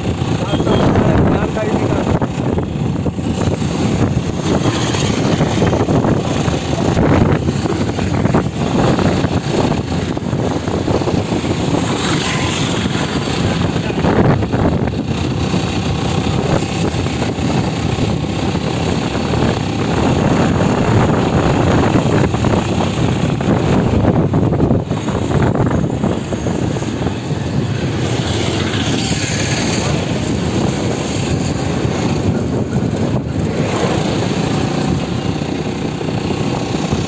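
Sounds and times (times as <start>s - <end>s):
vehicle engine and road noise: 0.0s - 37.0s
wind rushing over microphone: 0.0s - 37.0s.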